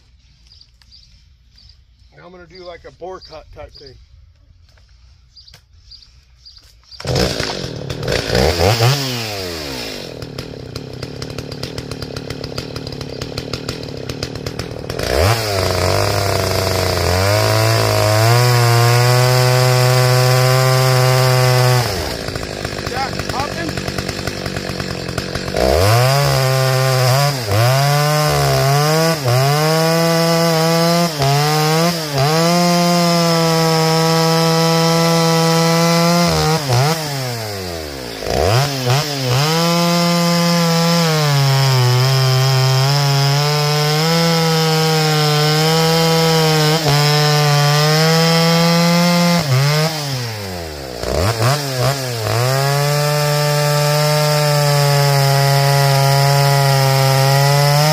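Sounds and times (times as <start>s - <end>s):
chainsaw cutting through log: 6.9s - 57.9s.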